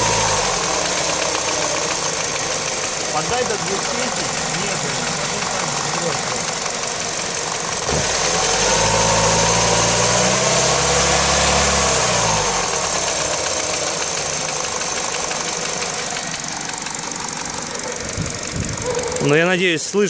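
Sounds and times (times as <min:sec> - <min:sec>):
engine knocking: 0:00.0 - 0:19.5
car engine revving and idling: 0:00.0 - 0:19.8.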